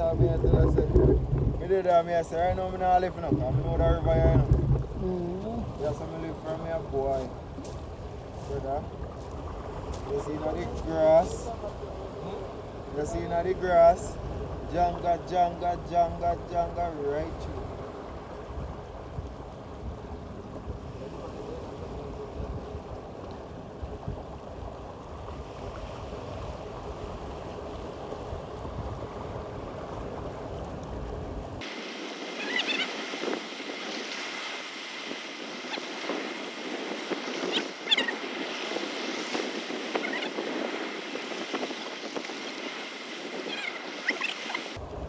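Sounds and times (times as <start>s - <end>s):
running river water: 0.0s - 45.0s
wind buffeting microphone: 0.0s - 45.0s.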